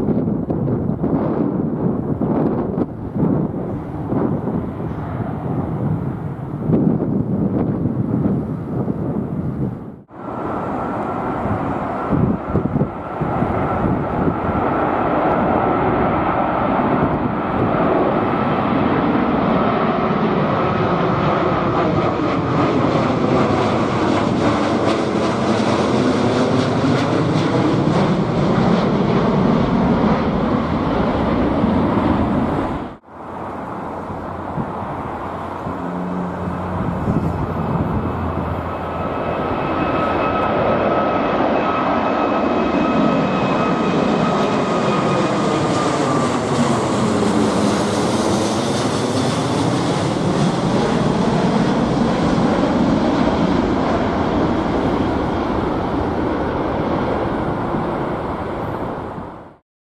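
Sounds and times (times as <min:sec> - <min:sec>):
jet engines roaring past: 0:00.0 - 0:59.6
high engine whine: 0:09.6 - 0:59.6.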